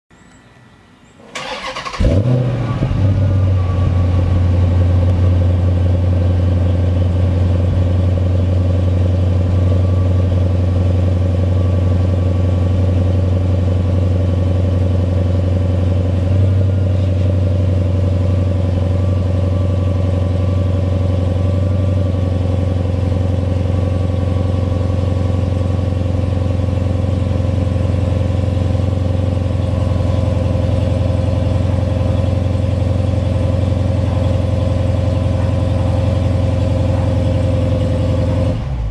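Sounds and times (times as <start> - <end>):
car engine idling: 1.3 - 38.9.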